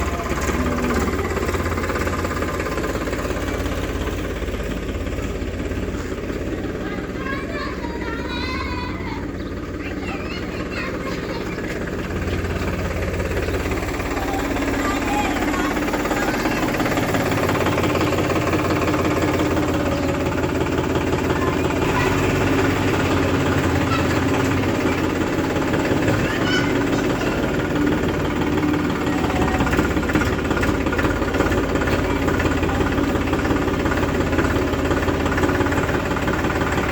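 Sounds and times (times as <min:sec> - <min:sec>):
diesel engine chugging: 0:00.0 - 0:36.9.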